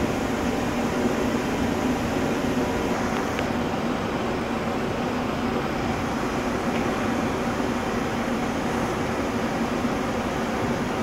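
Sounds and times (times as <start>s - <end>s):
train cooling fans humming: 0.0s - 11.0s.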